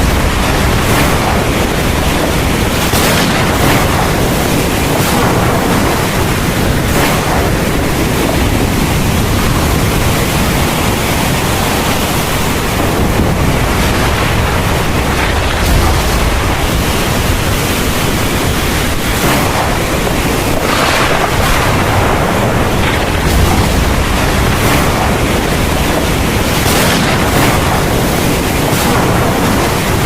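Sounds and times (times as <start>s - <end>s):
heavy rain hissing: 0.0s - 30.0s
low rumble: 0.0s - 30.0s.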